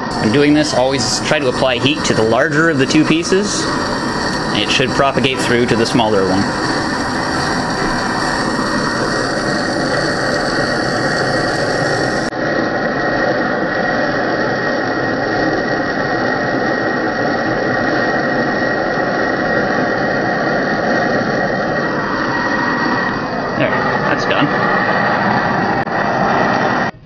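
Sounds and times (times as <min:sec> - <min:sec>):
gas torch hissing: 0:00.0 - 0:12.6, 0:13.3 - 0:26.9.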